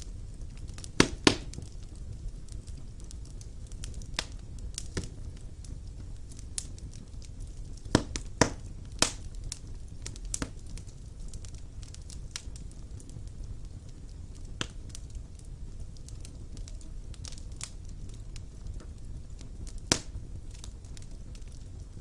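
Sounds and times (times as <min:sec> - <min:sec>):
fire crackling: 0:00.0 - 0:22.0
low rumble of flames: 0:00.0 - 0:22.0
sharp pops of fire: 0:00.0 - 0:22.0.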